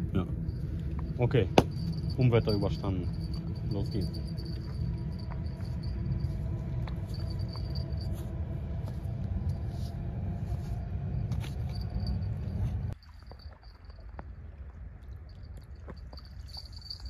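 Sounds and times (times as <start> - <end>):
faint steady tones: 0.0 - 17.0.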